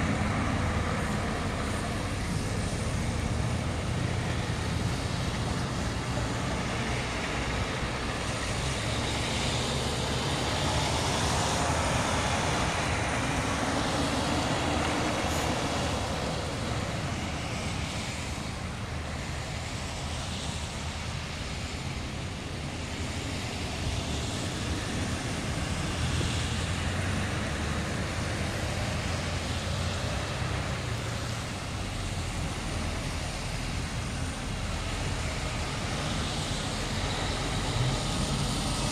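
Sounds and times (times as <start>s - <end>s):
truck engines passing: 0.0s - 38.9s
tyre noise on wet road: 0.0s - 38.9s.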